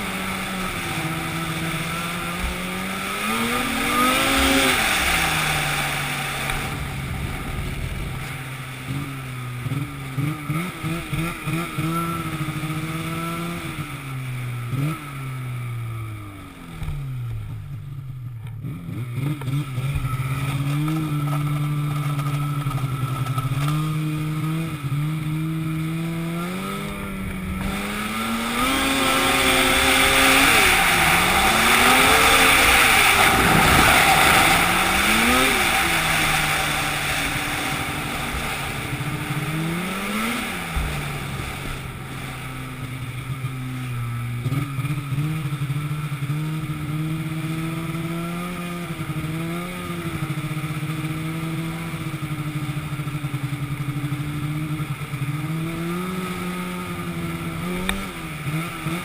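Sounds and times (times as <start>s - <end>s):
engine revving: 0.0s - 17.3s, 18.5s - 59.0s.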